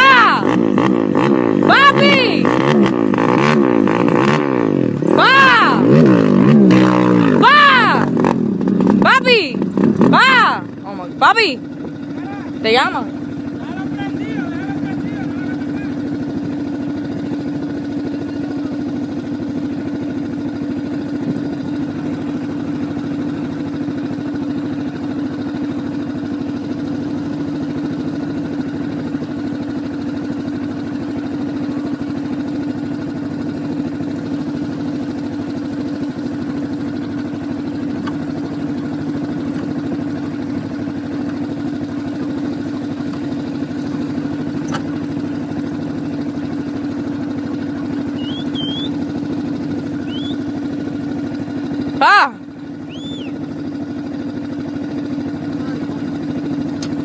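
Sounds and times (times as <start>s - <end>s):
atv engine idling: 0.0s - 57.0s.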